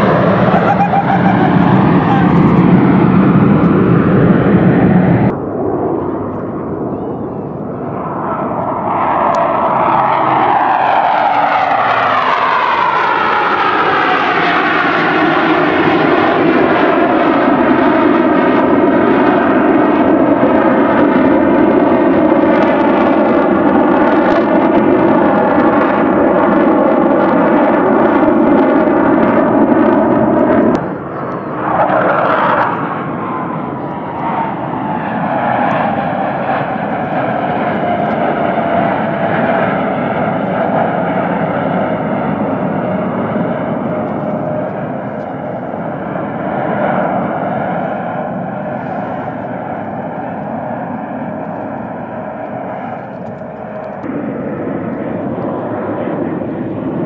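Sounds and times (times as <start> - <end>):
airplane engines flying past: 0.0 - 57.0.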